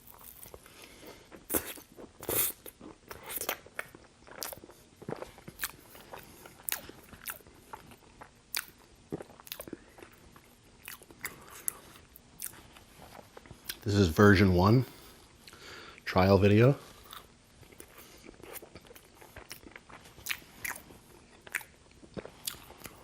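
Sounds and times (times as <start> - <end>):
crunching bites and chewing: 0.0 - 13.8, 17.0 - 23.0.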